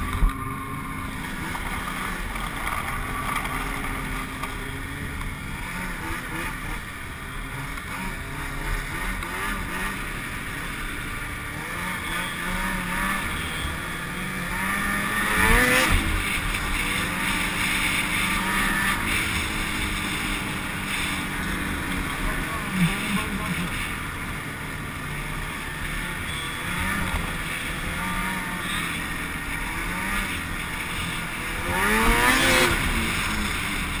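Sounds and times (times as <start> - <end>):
snowmobile engine revving: 0.0 - 34.0
snowmobile engines running: 0.0 - 34.0.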